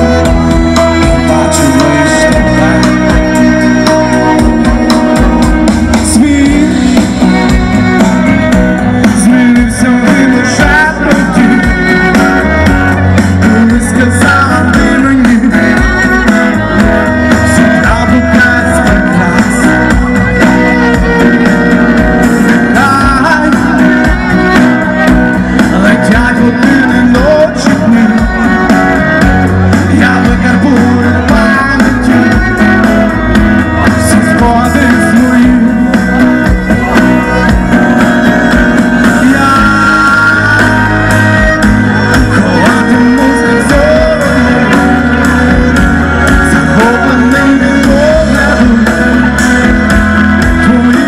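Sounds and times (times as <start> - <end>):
live band with guitars and bass: 0.0 - 51.0
person singing: 0.0 - 51.0.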